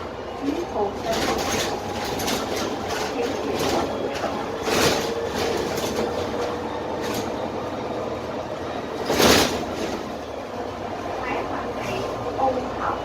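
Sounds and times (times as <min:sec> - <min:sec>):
road and body noise: 0:00.0 - 0:12.6
bus engine drone with whine: 0:00.0 - 0:13.0.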